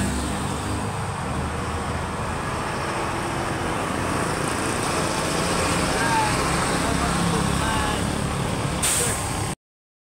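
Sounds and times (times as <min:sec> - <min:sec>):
road traffic passing: 0:00.0 - 0:09.6.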